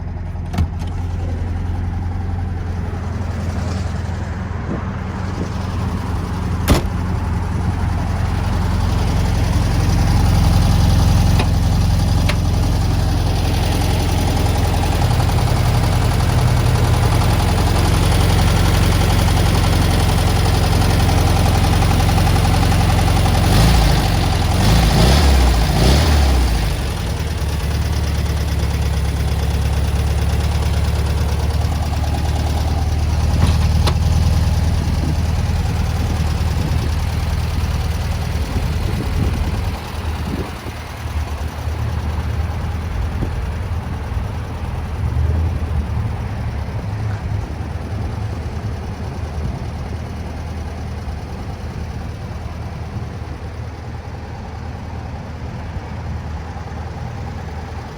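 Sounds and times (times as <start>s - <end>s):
car engine idling and revving: 0.0s - 57.9s.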